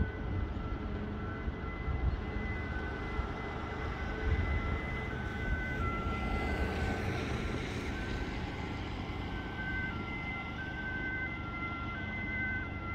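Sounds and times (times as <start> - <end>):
warning siren two tones: 0.0 - 12.9.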